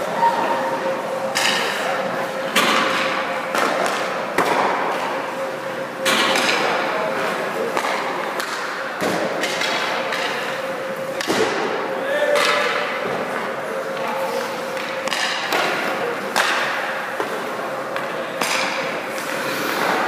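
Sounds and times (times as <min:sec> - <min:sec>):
pucks and sticks clacking: 0:01.3 - 0:01.9, 0:02.5 - 0:05.2, 0:06.0 - 0:06.9, 0:07.6 - 0:20.0.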